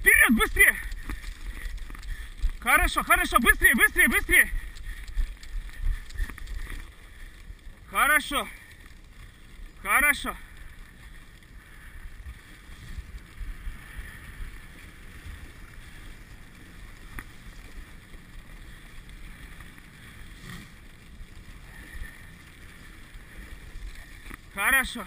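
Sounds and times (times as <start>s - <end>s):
sled runners on snow: 0.0s - 25.0s.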